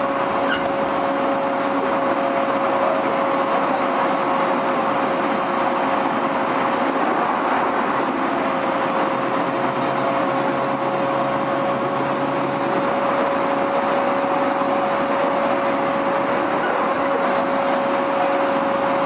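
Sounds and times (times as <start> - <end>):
train equipment hum: 0.0 - 19.0.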